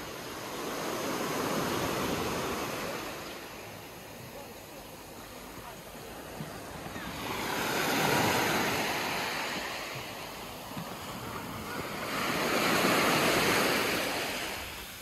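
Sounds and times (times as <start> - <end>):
waves washing on shingle shore: 0.0 - 15.0.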